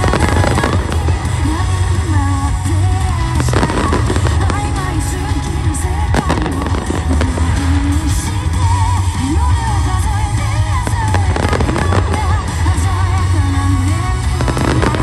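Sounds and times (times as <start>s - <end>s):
fireworks bangs and crackling: 0.0s - 15.0s
loud music with heavy bass: 0.0s - 15.0s.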